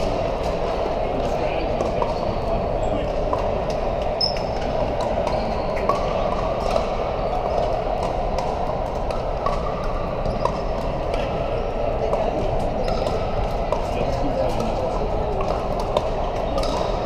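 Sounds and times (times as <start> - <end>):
background din of hall: 0.0 - 17.0
paddles hitting plastic balls: 3.0 - 17.0.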